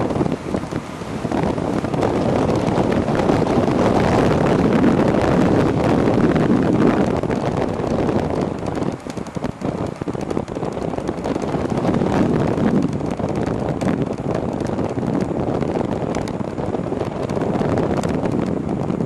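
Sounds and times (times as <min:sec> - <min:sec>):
steady travel noise: 0:00.0 - 0:19.0
wind buffeting microphone: 0:00.0 - 0:19.0.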